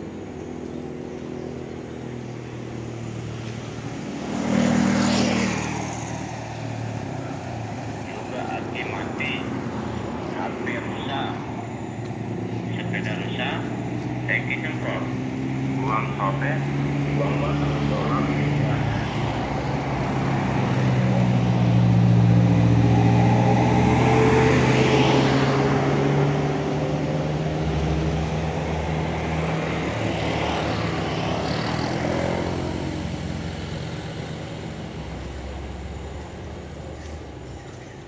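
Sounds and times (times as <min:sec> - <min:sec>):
vehicle engine on road: 0:00.0 - 0:38.0.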